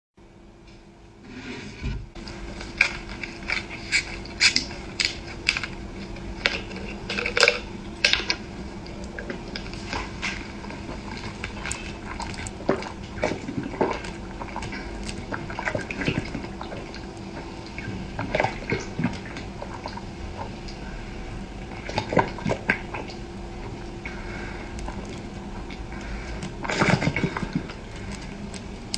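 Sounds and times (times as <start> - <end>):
faint hum: 0.2 - 28.9
wet chewing and slurping: 2.2 - 28.9.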